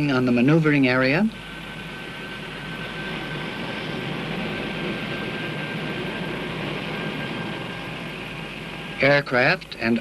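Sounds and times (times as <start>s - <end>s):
aircraft engine rushing: 0.0s - 10.0s
faint high whine: 0.0s - 10.0s.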